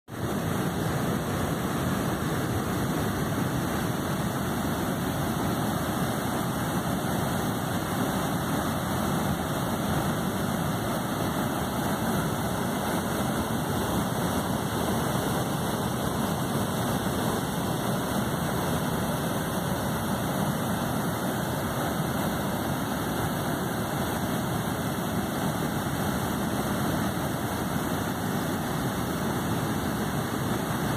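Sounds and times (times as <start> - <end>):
water rushing over rapids: 0.1 - 30.9.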